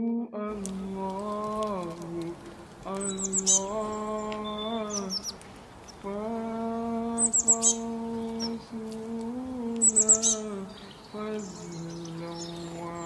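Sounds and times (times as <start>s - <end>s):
person singing long held notes: 0.0s - 5.4s, 6.0s - 13.0s
bird chirps: 0.5s - 13.0s.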